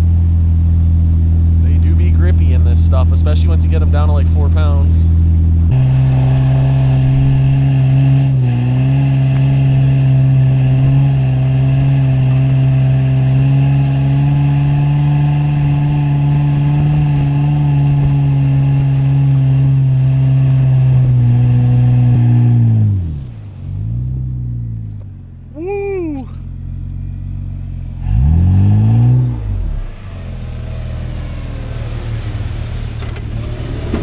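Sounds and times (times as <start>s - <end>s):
truck engine pulling under load: 0.0s - 25.2s, 26.5s - 34.0s.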